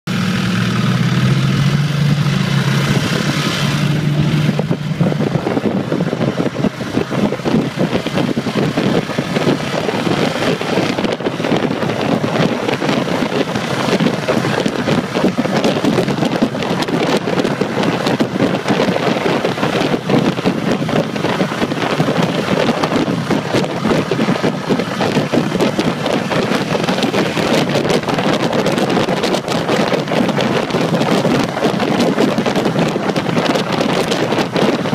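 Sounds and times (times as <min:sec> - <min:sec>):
motorcycle engine running: 0:00.1 - 0:34.9
wind buffeting on microphone: 0:00.3 - 0:34.9.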